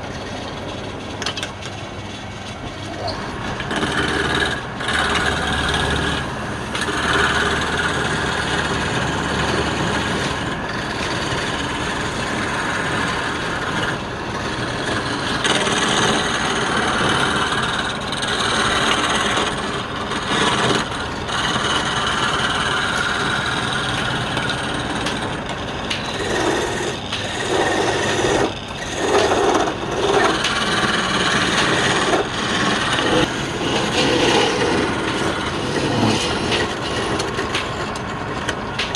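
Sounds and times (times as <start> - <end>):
tool scraping wood on lathe: 0.0 - 38.9.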